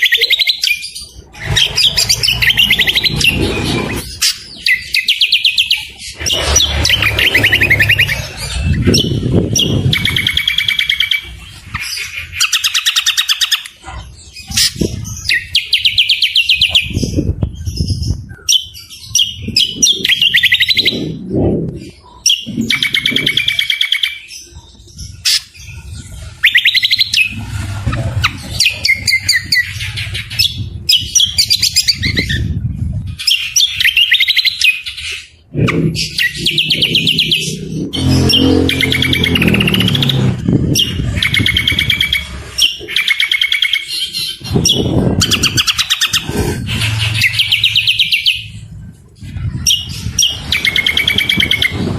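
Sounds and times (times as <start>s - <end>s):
birds trilling and chattering: 0.0s - 51.9s
rough low bird calls: 0.0s - 51.9s.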